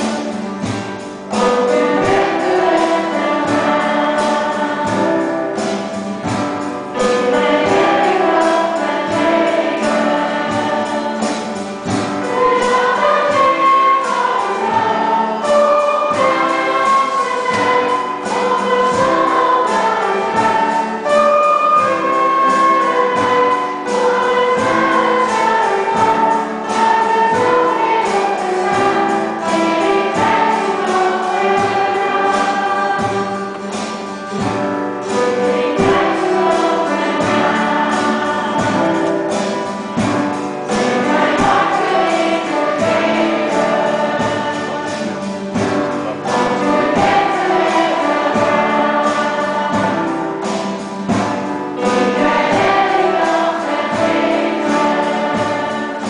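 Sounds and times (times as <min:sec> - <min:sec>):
children's choir singing: 0:00.0 - 0:56.0
drum kit beat: 0:00.0 - 0:56.0
keyboard: 0:00.0 - 0:56.0.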